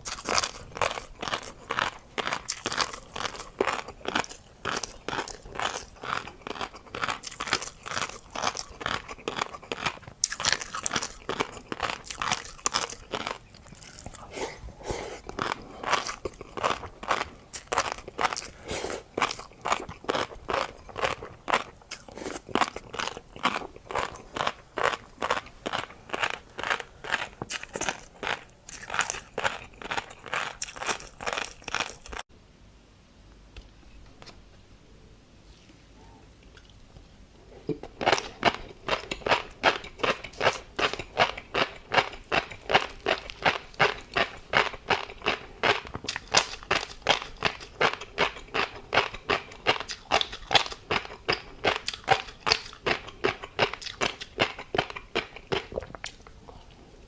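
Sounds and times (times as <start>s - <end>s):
wet crunchy chewing: 0.0s - 32.2s, 37.8s - 56.8s.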